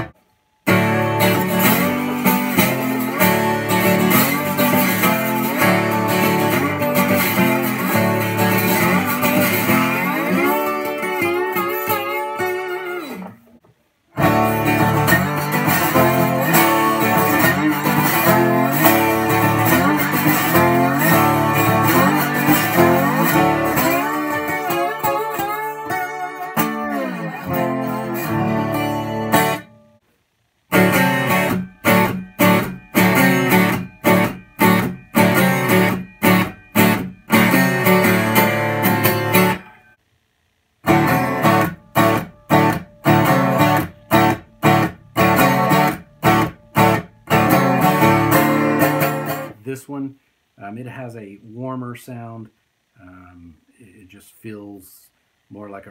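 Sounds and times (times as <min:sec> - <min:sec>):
slide guitar chords: 0:00.0 - 0:30.0, 0:30.7 - 0:40.0, 0:40.8 - 0:51.2
acoustic guitar chords strummed: 0:00.0 - 0:40.0, 0:40.8 - 0:52.4.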